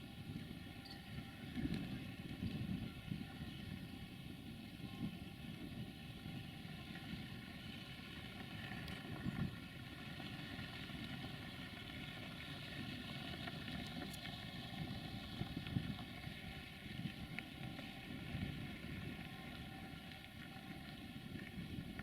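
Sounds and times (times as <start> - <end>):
rail vehicle idling hum: 0.0 - 22.0
wind buffeting microphone: 0.0 - 22.0.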